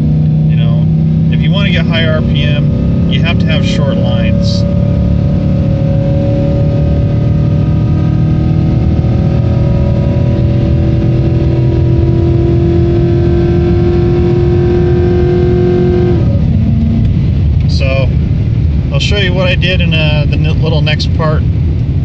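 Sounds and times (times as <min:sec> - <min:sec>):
transmission shifting up: 0:00.0 - 0:22.0
truck engine accelerating: 0:00.0 - 0:22.0.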